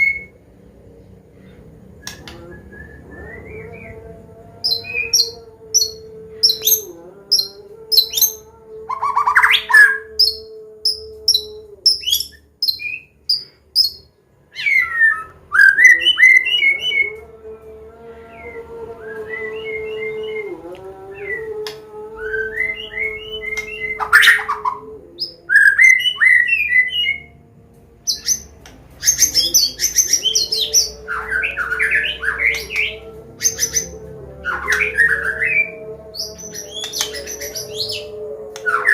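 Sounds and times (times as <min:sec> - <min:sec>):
bird singing: 0:00.0 - 0:38.9
low hum: 0:00.0 - 0:38.9.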